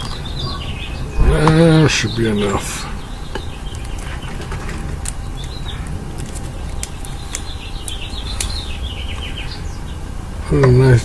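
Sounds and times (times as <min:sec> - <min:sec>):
small birds chirping: 0:00.0 - 0:11.0
steady low rumble: 0:00.0 - 0:11.0.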